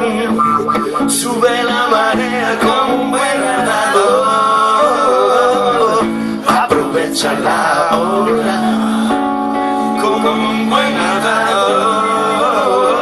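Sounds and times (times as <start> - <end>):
guitar accompaniment: 0.0 - 13.0
man singing: 0.0 - 13.0.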